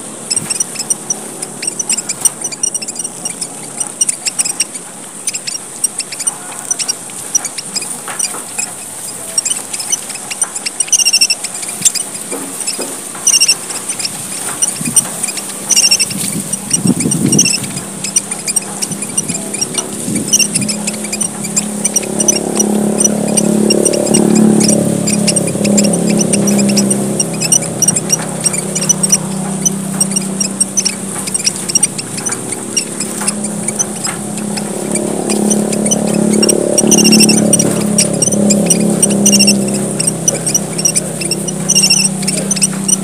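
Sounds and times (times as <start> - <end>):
finches chirping: 0.0 - 43.0
loud bird call: 0.0 - 43.0.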